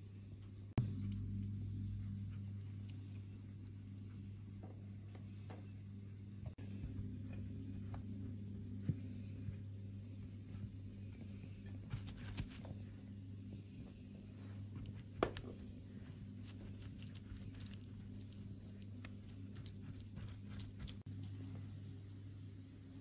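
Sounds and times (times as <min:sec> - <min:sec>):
steady low hum: 0:00.0 - 0:23.0
pastry brush dabbing: 0:00.7 - 0:21.1.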